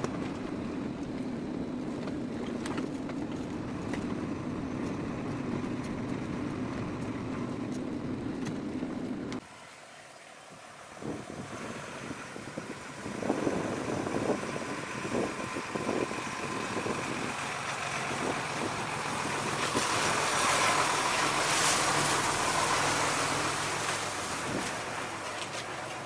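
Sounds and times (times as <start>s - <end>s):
heavy farm machinery engine: 0.0s - 26.0s.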